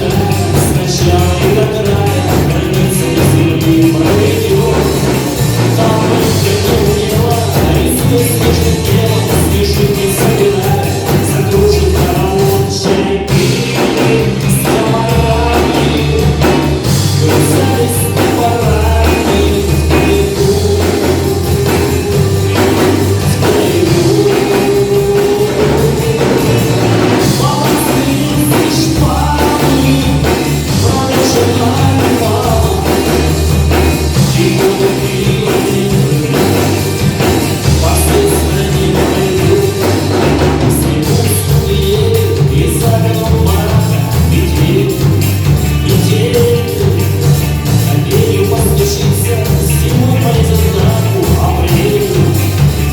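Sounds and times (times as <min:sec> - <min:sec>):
rock band with vocals: 0:00.0 - 0:52.9.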